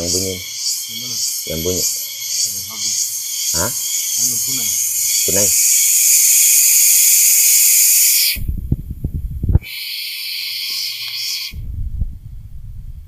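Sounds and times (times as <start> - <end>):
insects buzzing: 0.0 - 8.5, 9.6 - 11.6.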